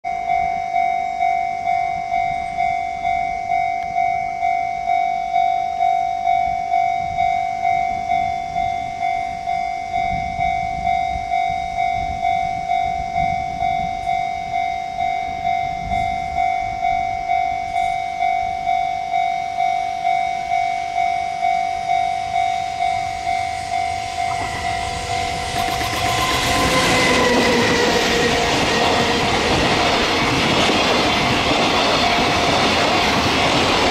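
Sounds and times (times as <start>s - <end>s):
freight train rumble and wheels: 0.1s - 5.0s, 5.7s - 33.9s
level crossing bell ringing: 0.1s - 32.6s.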